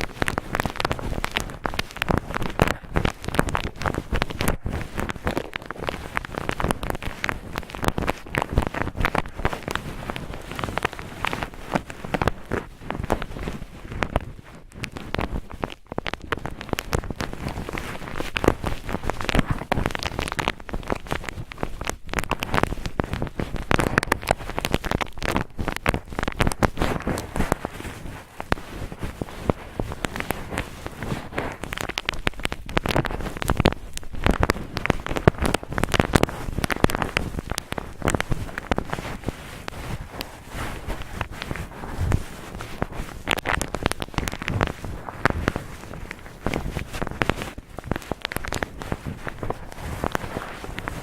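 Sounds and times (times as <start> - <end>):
cotton rubbed on microphone: 0.0 - 51.0.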